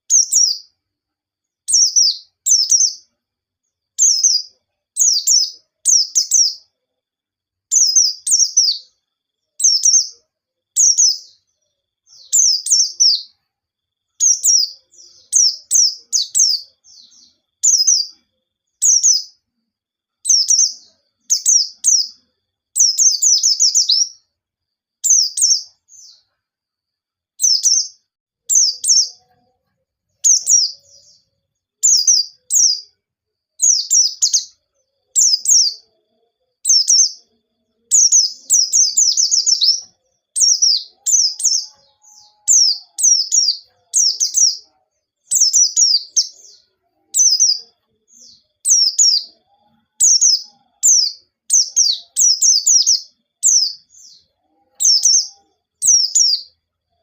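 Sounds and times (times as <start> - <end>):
small bird singing high phrases: 0.0 - 6.8, 7.6 - 26.6, 27.3 - 57.0.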